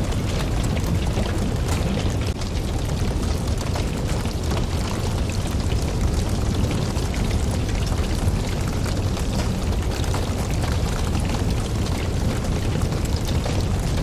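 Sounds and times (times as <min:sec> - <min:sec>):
burning wood crackling and popping: 0:00.0 - 0:14.0
campfire flames rumbling: 0:00.0 - 0:14.0.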